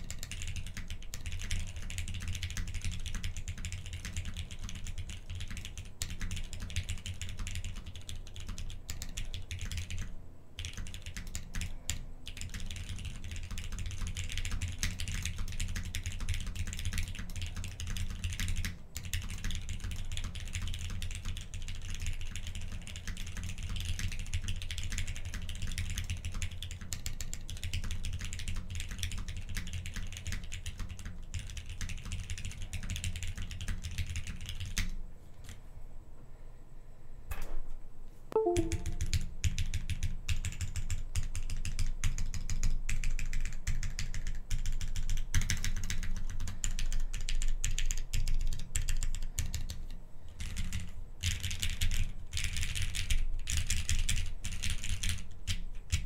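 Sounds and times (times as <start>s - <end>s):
fast typing on mechanical keyboard: 0.0s - 35.6s, 38.4s - 56.0s.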